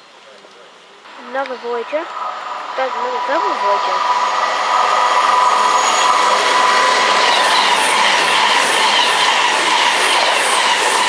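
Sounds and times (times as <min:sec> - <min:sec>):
train passing at speed: 0:01.1 - 0:11.0.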